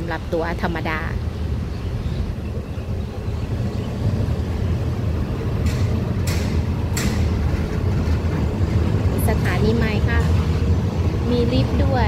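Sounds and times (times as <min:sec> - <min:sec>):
train rumbling inside coach: 0:00.0 - 0:12.0.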